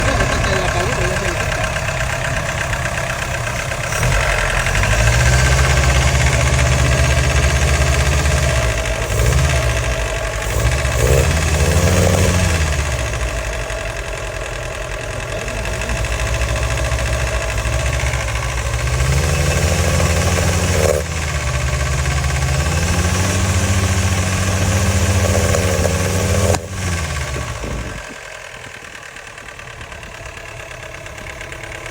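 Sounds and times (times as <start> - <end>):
car engine revving: 0.0 - 28.5.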